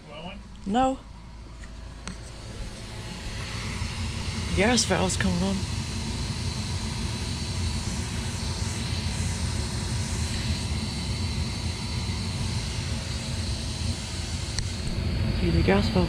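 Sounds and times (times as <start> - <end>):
furnace fan motor drone: 0.0 - 16.0.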